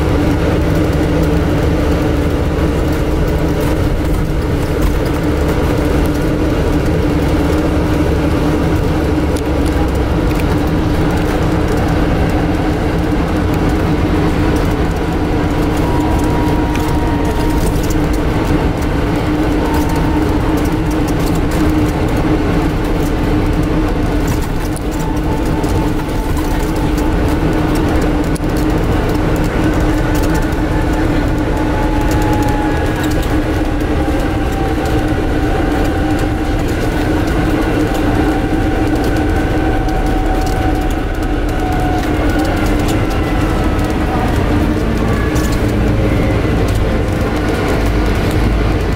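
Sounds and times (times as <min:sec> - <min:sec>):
air conditioning hum: 0:00.0 - 0:48.9
bus road and body noise: 0:00.0 - 0:48.9.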